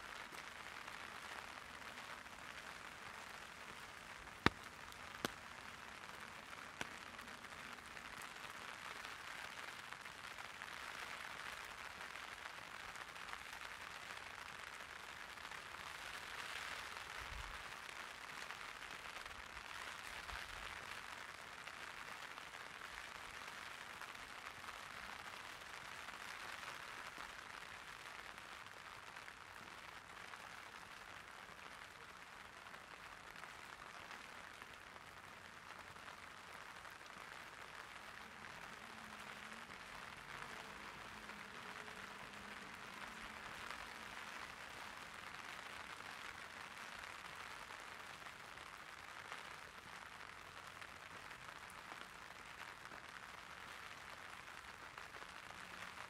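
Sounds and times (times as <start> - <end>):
light rain on an umbrella: 0.0 - 56.0.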